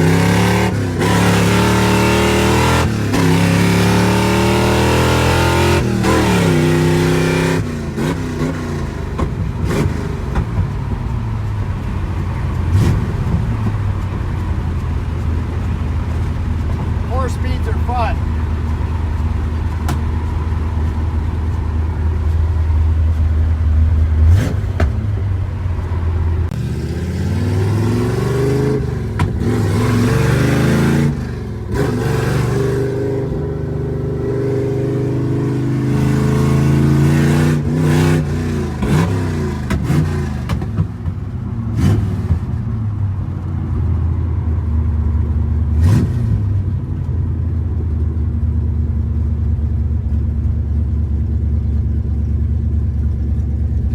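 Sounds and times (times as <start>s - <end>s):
car engine accelerating through gears: 0.0s - 53.9s.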